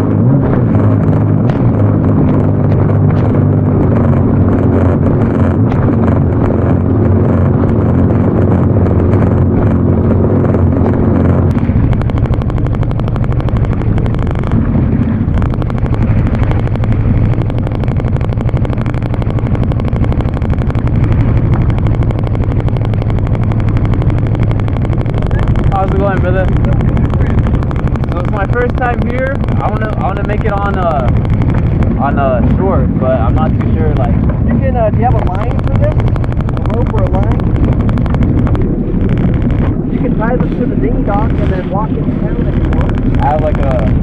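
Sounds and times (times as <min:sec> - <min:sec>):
jet ski engine running: 0:00.0 - 0:44.0.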